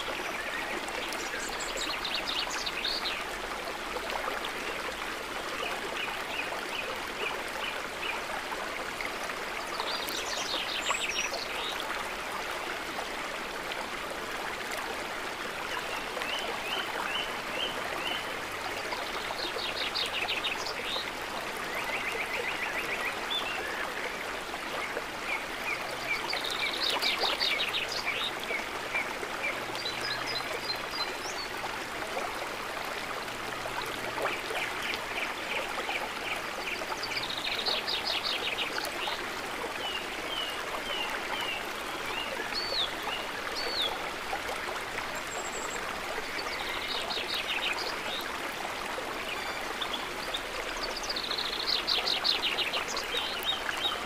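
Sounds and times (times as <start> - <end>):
water trickling and lapping: 0.0 - 54.0.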